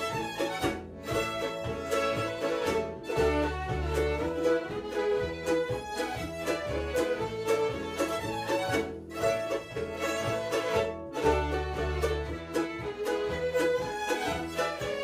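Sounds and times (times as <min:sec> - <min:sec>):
double bass steady beat: 0:00.0 - 0:15.0
fiddles playing folk dance tune: 0:00.0 - 0:15.0.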